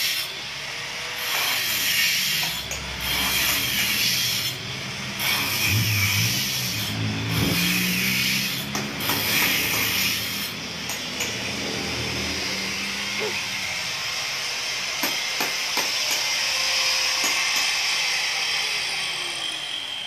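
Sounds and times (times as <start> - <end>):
angle grinder motor running: 0.0 - 20.0.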